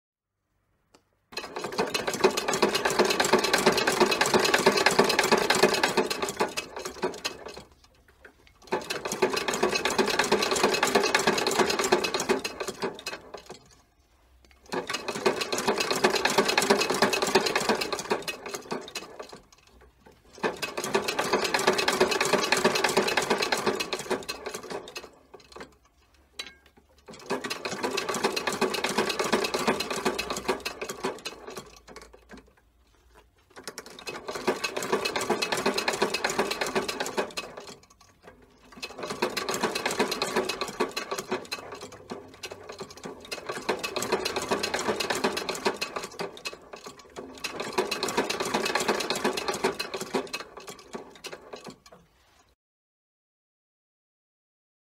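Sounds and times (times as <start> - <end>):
sewing machine stitching: 1.3 - 13.9, 14.5 - 52.6.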